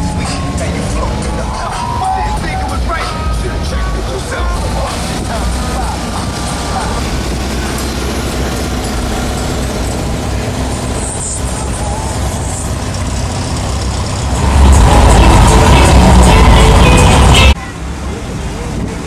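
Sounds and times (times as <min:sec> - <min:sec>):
loud engine close by: 0:00.0 - 0:19.0
street traffic rumble: 0:00.0 - 0:19.0.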